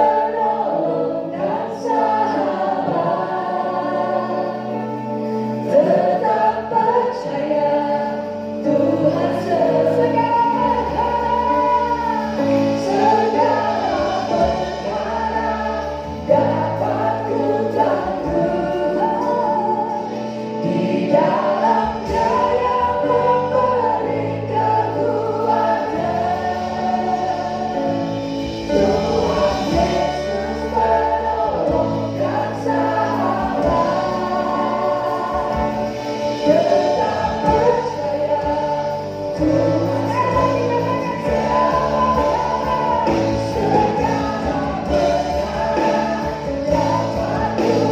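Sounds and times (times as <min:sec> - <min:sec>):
choir singing: 0:00.0 - 0:47.9
instrumental accompaniment with bass: 0:00.0 - 0:47.9.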